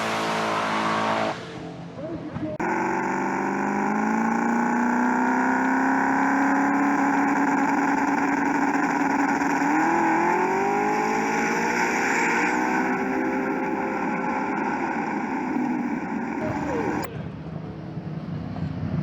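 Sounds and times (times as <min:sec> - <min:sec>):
car engine revving: 0:00.0 - 0:17.1.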